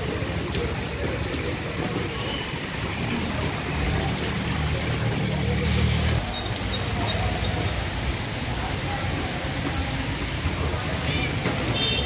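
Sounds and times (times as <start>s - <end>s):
rain on a wet street: 0.0s - 12.0s.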